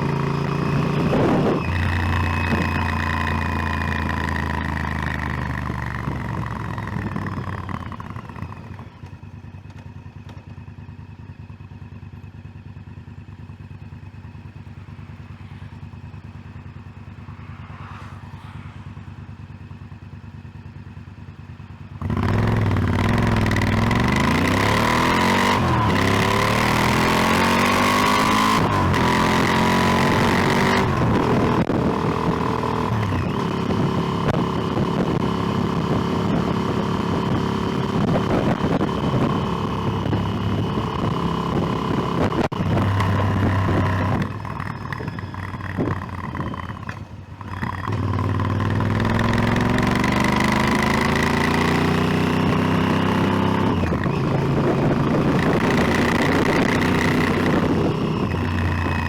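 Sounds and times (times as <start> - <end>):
motorcycle engine shifting gears: 0.0 - 59.0.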